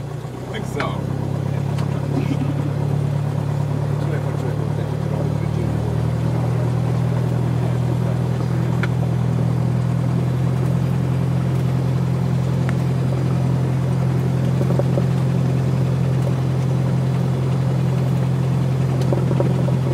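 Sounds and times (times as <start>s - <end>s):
airplane engine and propeller drone: 0.0s - 19.9s.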